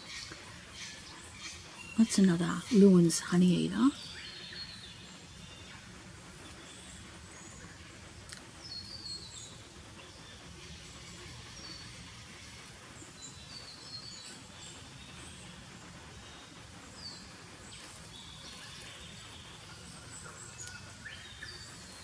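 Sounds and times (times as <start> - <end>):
faint birdsong: 0.0 - 22.0
steady low background noise: 0.0 - 22.0.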